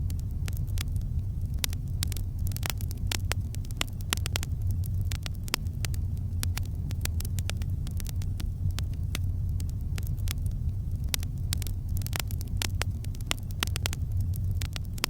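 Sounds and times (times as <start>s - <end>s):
campfire crackling and popping: 0.0s - 15.0s
low rumble of fire: 0.0s - 15.0s.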